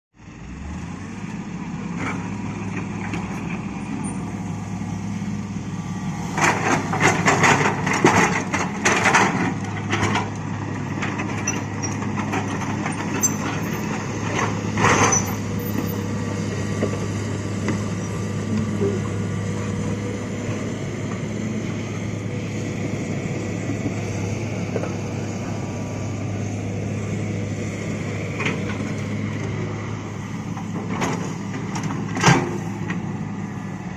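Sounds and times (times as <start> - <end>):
diesel machinery humming: 0.2 - 33.9.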